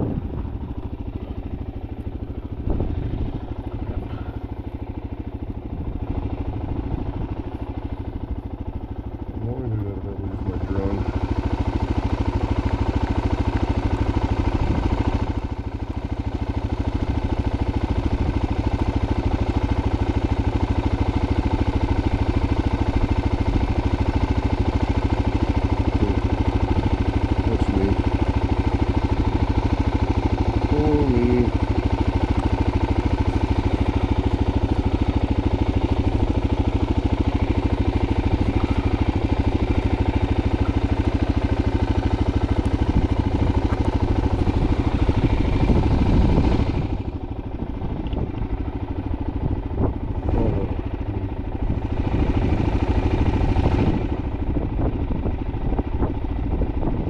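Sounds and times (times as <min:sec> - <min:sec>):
engine running with fast pulse: 0:00.0 - 0:57.0.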